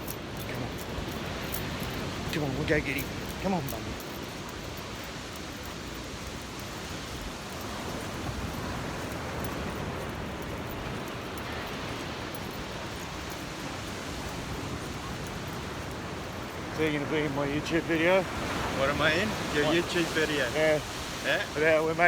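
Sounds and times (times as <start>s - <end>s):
small waves washing on shore: 0.0s - 22.0s
wind hiss: 0.0s - 22.0s.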